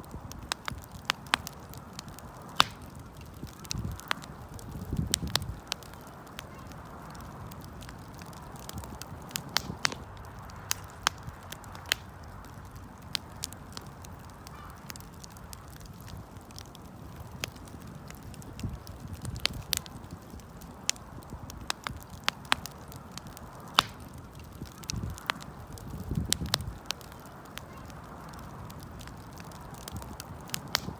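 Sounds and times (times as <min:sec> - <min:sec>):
campfire crackling and popping: 0:00.0 - 0:30.9
low hiss of burning: 0:00.0 - 0:30.9.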